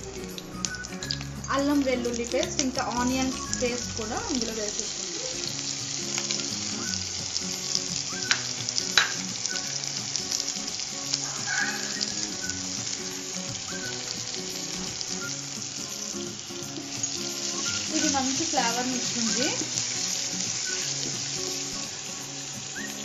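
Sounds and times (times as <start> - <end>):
oil sizzling in a frying pan: 0.0 - 23.0.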